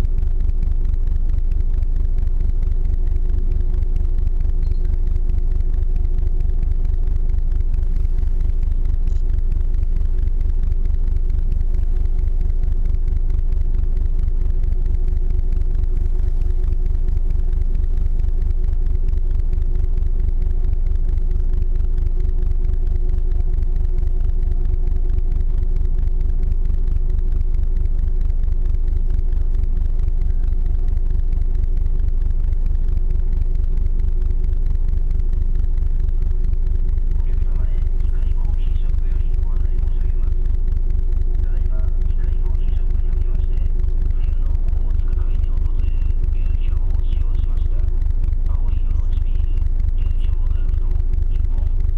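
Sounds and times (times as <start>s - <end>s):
ship engine rumble and hum: 0.0s - 51.9s.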